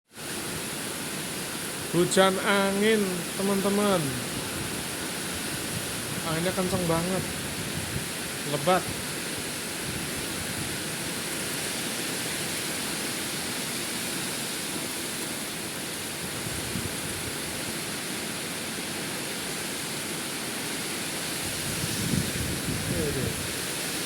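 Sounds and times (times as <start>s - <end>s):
heavy rain pouring: 0.1s - 24.0s
strong wind: 3.0s - 24.0s.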